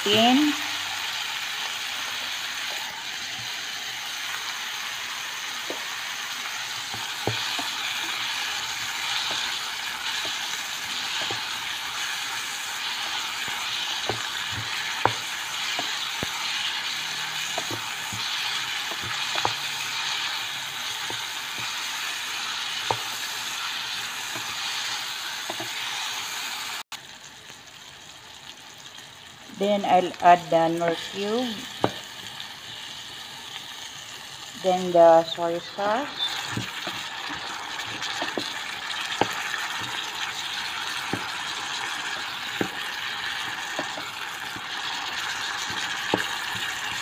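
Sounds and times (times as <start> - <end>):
oil sizzling in a pan: 0.0 - 47.0.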